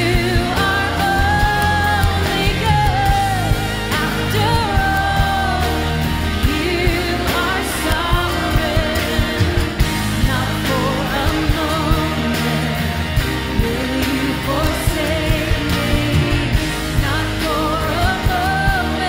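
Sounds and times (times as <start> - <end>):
band playing worship song: 0.0 - 19.0
voices singing: 0.0 - 19.0.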